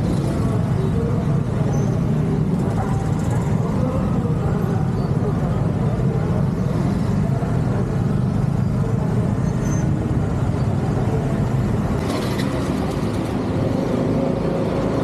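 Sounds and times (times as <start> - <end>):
traffic engines and road noise: 0.0 - 15.0.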